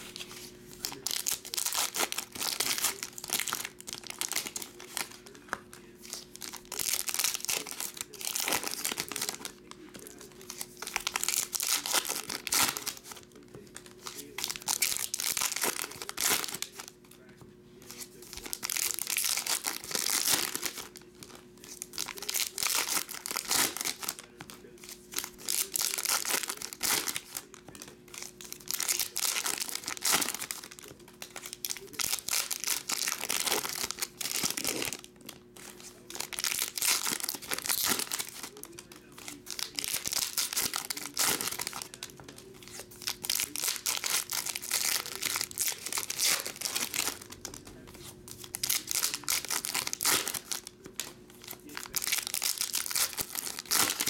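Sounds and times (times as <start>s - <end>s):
foil wrappers tearing and crinkling: 0.0s - 17.0s, 17.9s - 54.0s.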